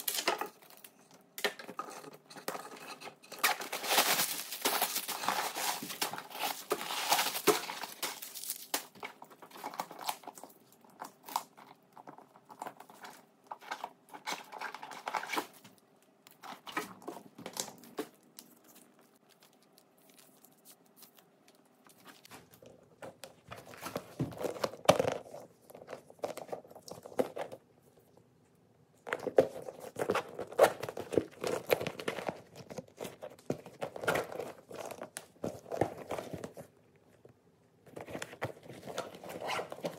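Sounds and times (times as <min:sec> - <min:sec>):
paper crinkling and rustling: 0:00.0 - 0:27.7, 0:29.1 - 0:37.2, 0:37.8 - 0:39.9.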